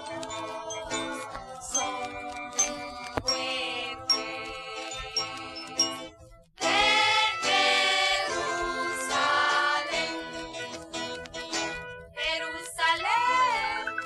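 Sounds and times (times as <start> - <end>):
praise band with voices singing: 0.0 - 11.2, 12.2 - 14.0.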